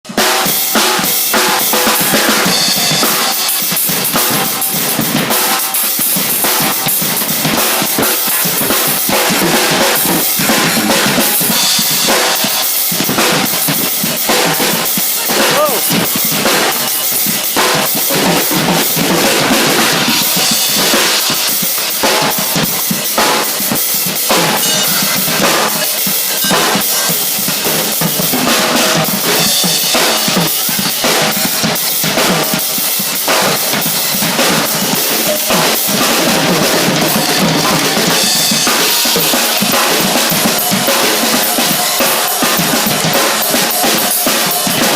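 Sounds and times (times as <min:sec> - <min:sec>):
drum kit playing: 0:00.0 - 0:44.9.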